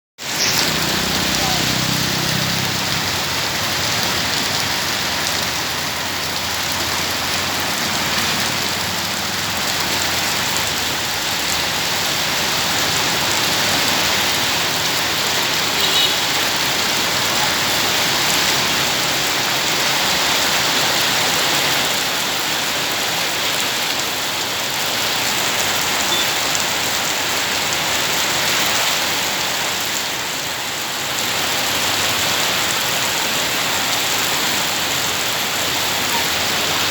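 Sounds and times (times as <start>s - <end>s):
steady rain pattering: 0.2s - 36.9s.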